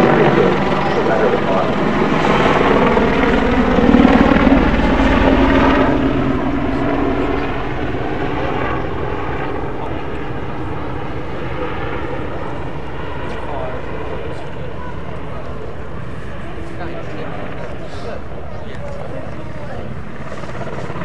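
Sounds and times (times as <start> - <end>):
helicopter flying past: 0.0 - 21.0.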